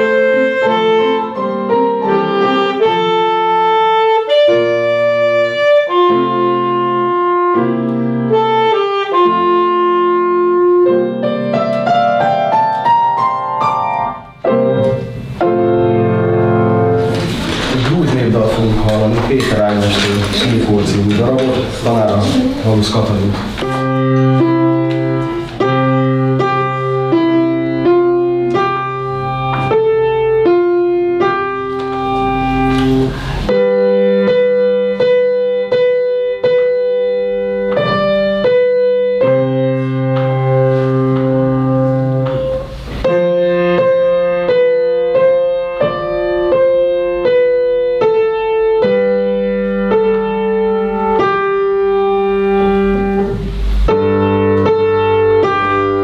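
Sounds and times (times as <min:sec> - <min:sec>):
grand piano melody: 0:00.0 - 0:56.0.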